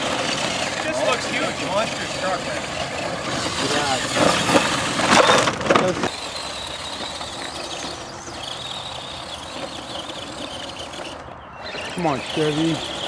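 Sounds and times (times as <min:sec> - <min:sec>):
toy truck scraping over rock: 0:00.0 - 0:13.0.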